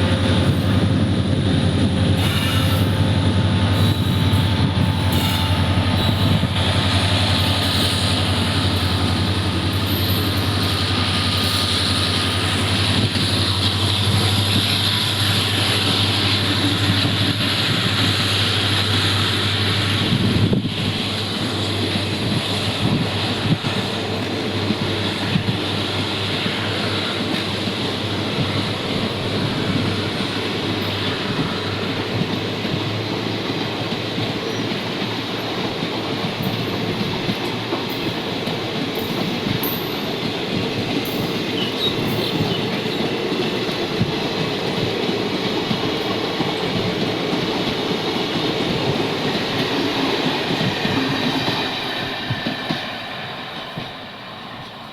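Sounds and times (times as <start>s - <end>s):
diesel locomotive engines humming: 0.0s - 54.9s
train rolling noise: 0.0s - 54.9s.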